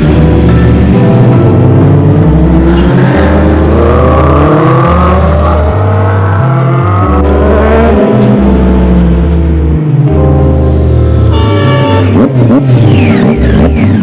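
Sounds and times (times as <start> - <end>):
motorbike engine accelerating: 0.0 - 10.4, 11.9 - 14.0
music with heavy bass: 0.0 - 14.0.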